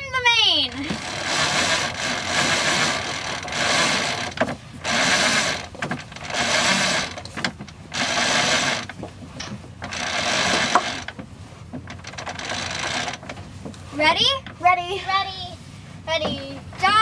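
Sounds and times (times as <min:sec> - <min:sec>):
rope ratcheting through deck hardware: 0:00.6 - 0:14.6.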